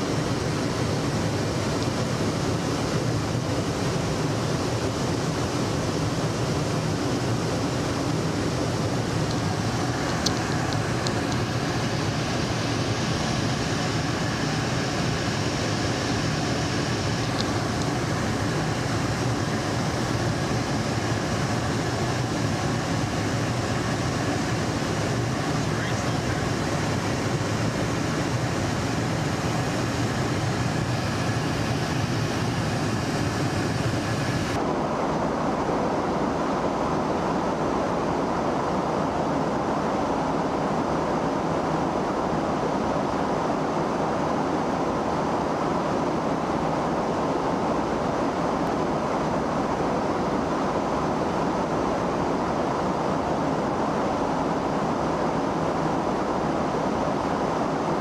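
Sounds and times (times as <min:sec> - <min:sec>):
fighter jet engines roaring: 0:00.0 - 0:58.0.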